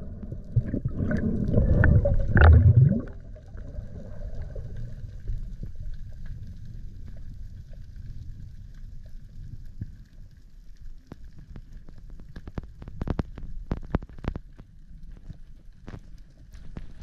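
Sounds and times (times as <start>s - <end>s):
muffled underwater water rush: 0.0s - 17.0s.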